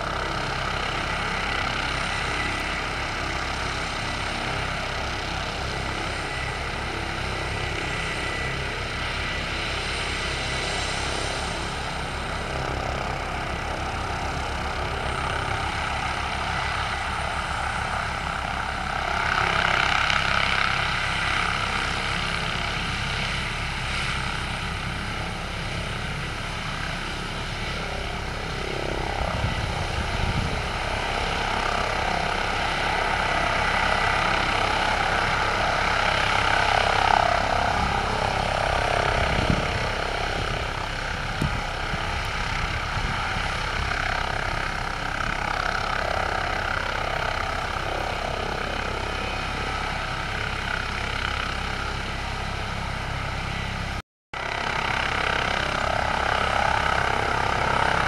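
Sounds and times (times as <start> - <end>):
helicopter rotor beat: 0.0 - 58.0
turbine whine: 0.0 - 58.0.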